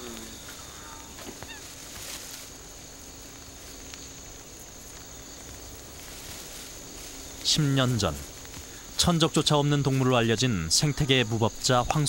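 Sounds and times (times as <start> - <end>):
crickets chirping: 0.0 - 12.0
soft even hiss: 0.0 - 12.0.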